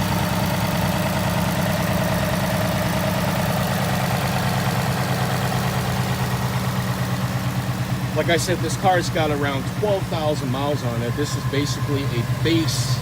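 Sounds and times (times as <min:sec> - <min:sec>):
car engine idling: 0:00.0 - 0:13.0
fast even engine ticking: 0:00.0 - 0:13.0.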